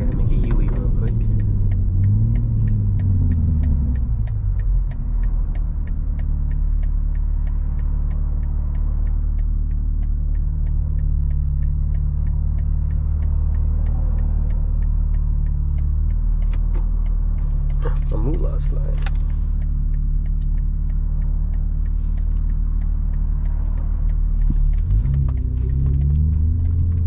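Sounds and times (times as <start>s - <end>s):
car engine drone: 0.0s - 27.0s
turn signal ticking: 0.0s - 27.0s.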